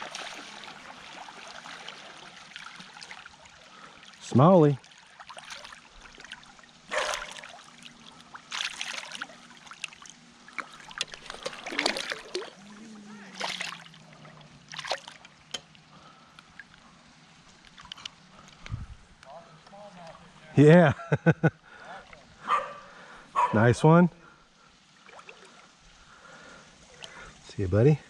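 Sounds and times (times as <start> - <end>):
water splashing in creek: 0.0 - 20.5, 24.7 - 27.4
faint running water: 0.0 - 28.0.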